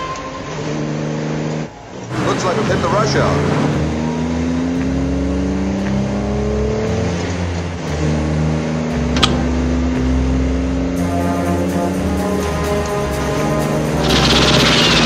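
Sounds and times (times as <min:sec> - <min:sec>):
car engine revving: 0:00.5 - 0:15.0.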